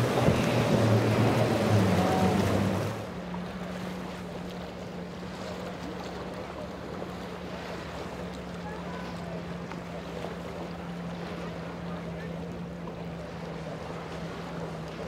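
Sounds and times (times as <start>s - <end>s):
boat engine droning: 0.0s - 15.0s
water noise: 0.0s - 15.0s.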